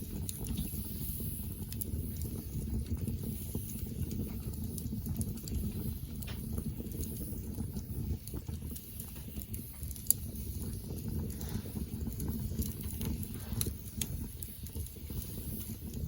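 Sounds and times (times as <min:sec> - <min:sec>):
campfire crackling: 0:00.0 - 0:16.0
sharp fire pops: 0:00.0 - 0:16.0.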